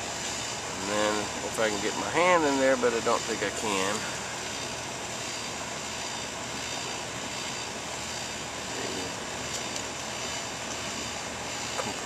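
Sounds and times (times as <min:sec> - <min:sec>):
compressor hum: 0:00.0 - 0:12.0
condenser fan rushing: 0:00.0 - 0:12.0.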